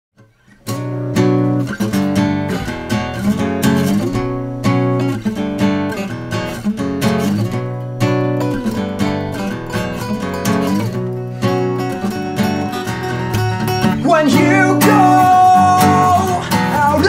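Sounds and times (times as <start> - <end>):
acoustic guitars strumming chords: 0.2 - 17.0.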